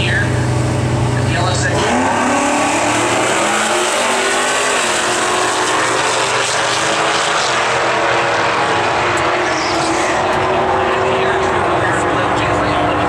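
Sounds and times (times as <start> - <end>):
drag car engines revving high: 0.0 - 13.0.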